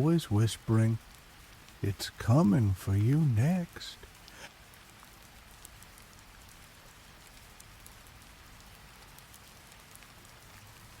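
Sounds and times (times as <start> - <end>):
rain hiss: 0.0 - 11.0
raindrops ticking: 0.0 - 11.0.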